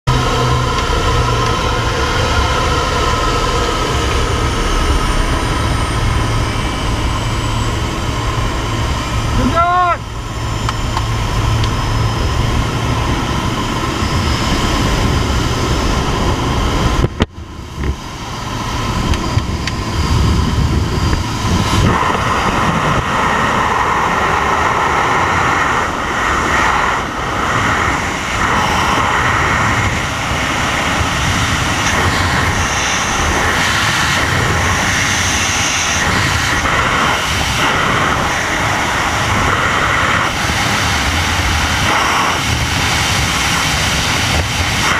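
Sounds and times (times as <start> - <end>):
airplane engine: 0.0 - 44.9
freefall wind rushing: 0.1 - 44.9.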